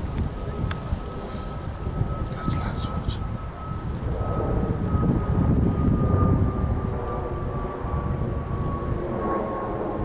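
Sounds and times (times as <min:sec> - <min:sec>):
jet engines climbing overhead: 0:00.0 - 0:10.0.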